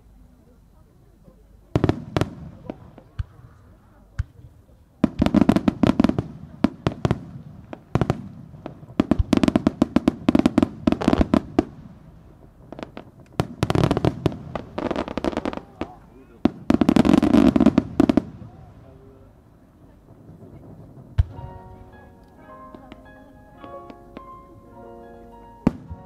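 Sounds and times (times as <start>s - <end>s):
fireworks bursting: 1.7s - 26.0s.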